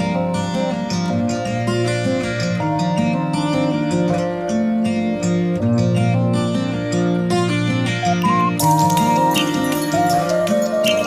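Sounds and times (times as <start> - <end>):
instrumental background music: 0.1 - 11.0.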